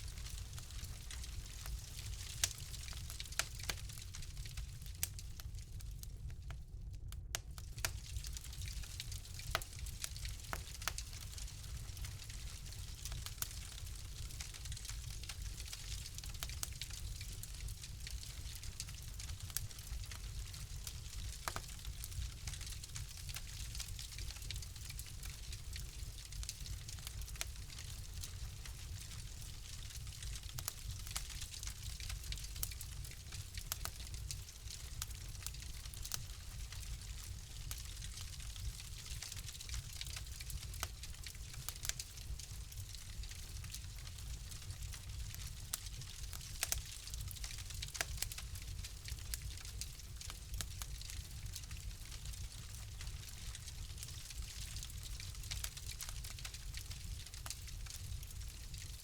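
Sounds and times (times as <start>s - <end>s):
rumble and hiss of flames: 0.0s - 59.0s
wood fire crackling: 0.0s - 59.0s.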